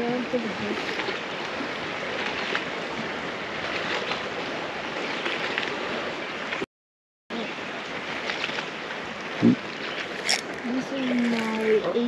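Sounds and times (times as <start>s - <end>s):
small water splashes: 0.0s - 6.6s, 7.3s - 12.0s
water lapping against boat hull: 0.0s - 6.6s, 7.3s - 12.0s.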